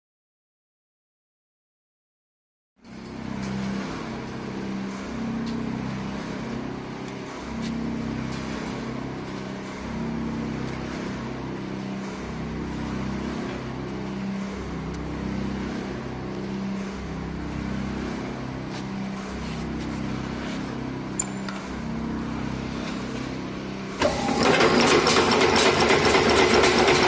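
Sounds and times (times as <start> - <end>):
machine mechanical drone: 2.8 - 27.0.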